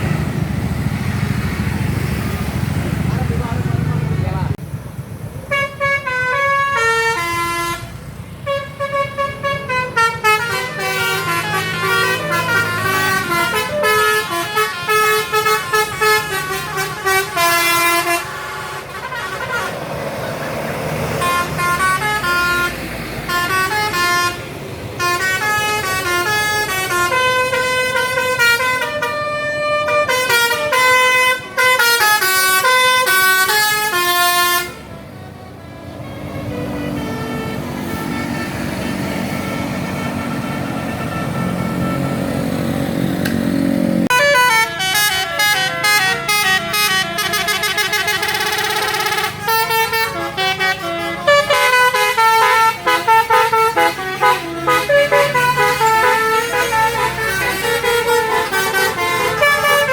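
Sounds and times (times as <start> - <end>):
musical bus air horn: 5.5 - 43.4, 44.0 - 59.9.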